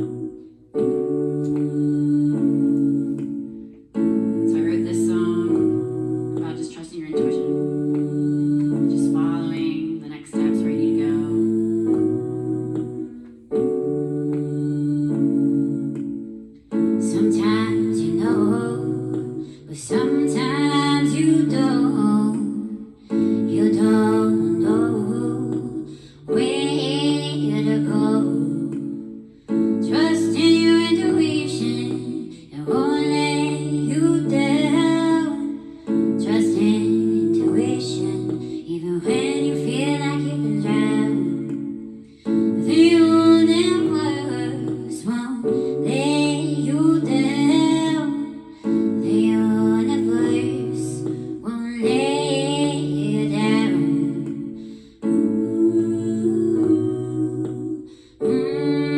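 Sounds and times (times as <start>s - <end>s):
sustained instrumental chords: 0.0s - 58.9s
woman singing: 0.0s - 58.9s.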